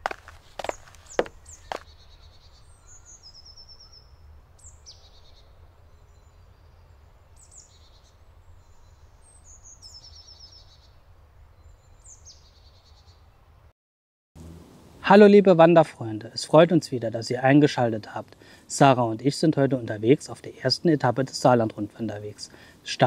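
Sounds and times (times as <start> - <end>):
songbird singing: 0.0 - 13.5, 16.3 - 23.0.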